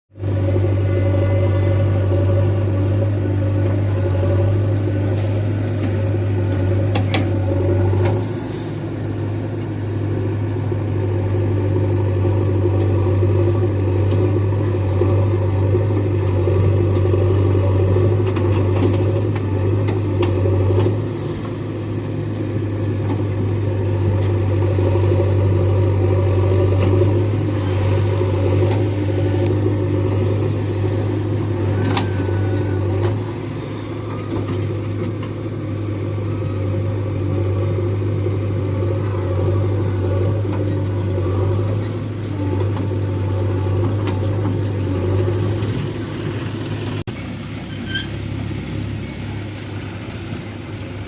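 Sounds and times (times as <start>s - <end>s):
heavy diesel engine humming: 0.1s - 51.0s.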